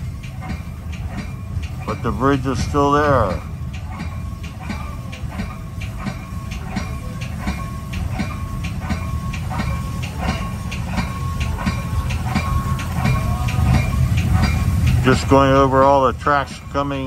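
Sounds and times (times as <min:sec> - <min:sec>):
low train rumble: 0:00.0 - 0:17.0
train wheels clicking over joints: 0:00.0 - 0:17.0.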